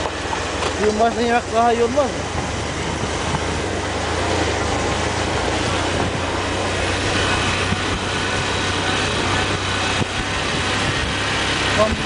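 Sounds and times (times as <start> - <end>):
constant rushing noise: 0.0 - 12.0
motorcycle engine running: 0.0 - 12.0.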